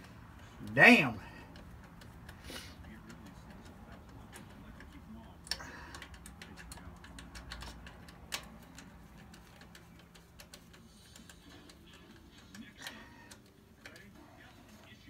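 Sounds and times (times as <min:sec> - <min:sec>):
small metallic clicks and taps: 0:01.4 - 0:15.0.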